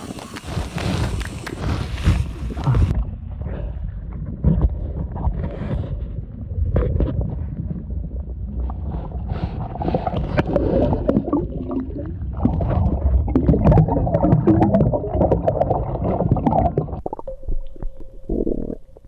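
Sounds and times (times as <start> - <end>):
underwater gurgling and churning: 0.0 - 19.0.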